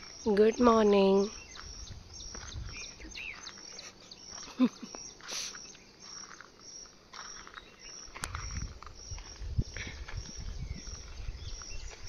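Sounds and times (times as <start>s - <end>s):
birds calling: 0.0s - 12.0s
insects chirping: 0.0s - 12.0s.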